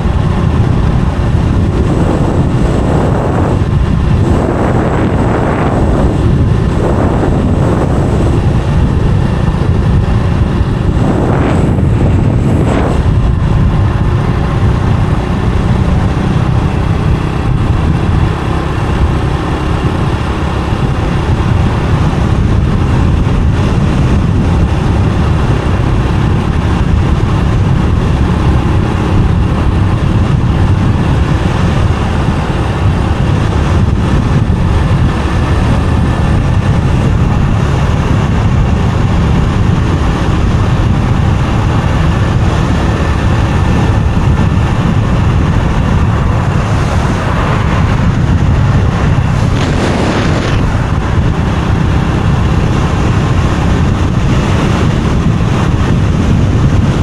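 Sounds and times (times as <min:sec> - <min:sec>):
motorbike engine: 0:00.0 - 0:57.0
road noise: 0:00.0 - 0:57.0
wind buffeting microphone: 0:00.0 - 0:57.0.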